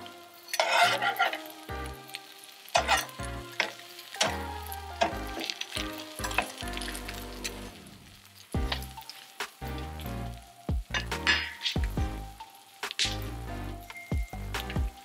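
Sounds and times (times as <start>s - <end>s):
background music: 0.0s - 15.0s
sandwich sizzling in a skillet: 0.0s - 15.0s.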